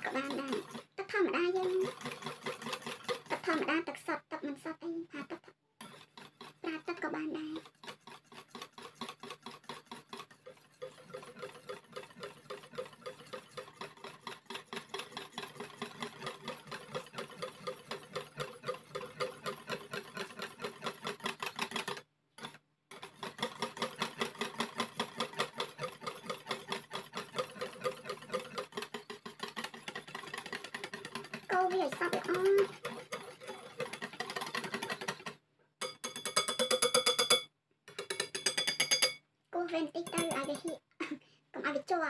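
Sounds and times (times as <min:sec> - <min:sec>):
whisk beating batter: 0:00.0 - 0:40.8.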